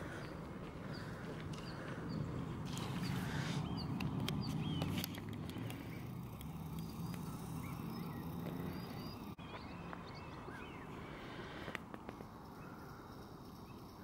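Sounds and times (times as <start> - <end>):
low outdoor rumble: 0.0 - 13.7
small birds chirping: 0.0 - 14.0.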